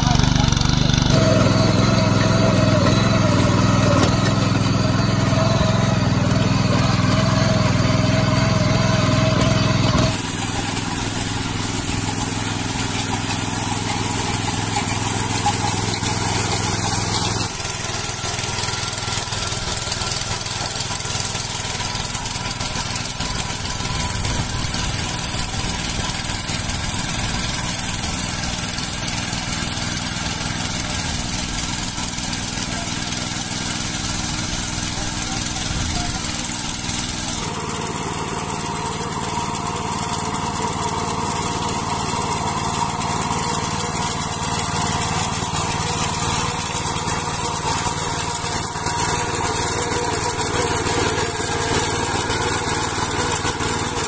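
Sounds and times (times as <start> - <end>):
small petrol engine running: 0.0 - 54.0
tines churning mud: 0.0 - 54.0.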